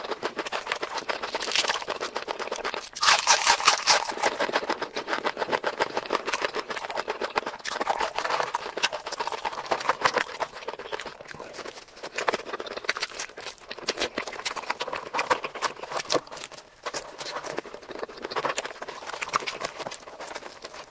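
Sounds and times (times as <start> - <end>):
chewing with wet lip smacks: 0.0 - 20.9.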